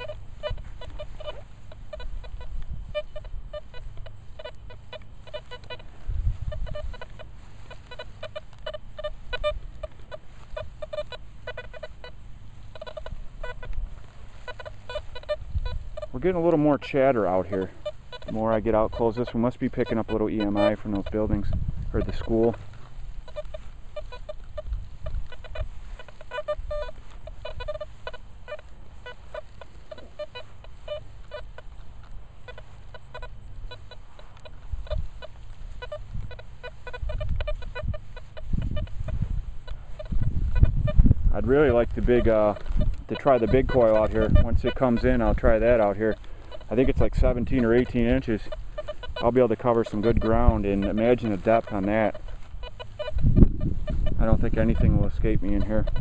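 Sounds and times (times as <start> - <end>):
metal detector short irregular beeps: 0.0 - 16.2, 17.2 - 31.8, 32.4 - 41.8, 42.5 - 53.2.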